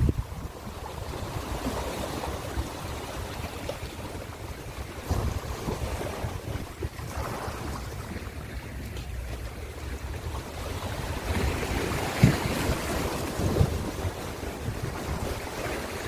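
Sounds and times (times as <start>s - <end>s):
ocean waves washing in: 0.0s - 16.0s
wind rumbling on microphone: 0.0s - 16.0s.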